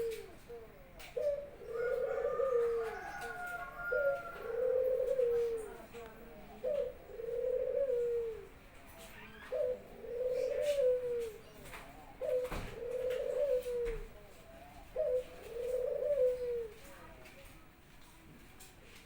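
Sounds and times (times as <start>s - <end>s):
dove cooing: 0.0s - 17.4s.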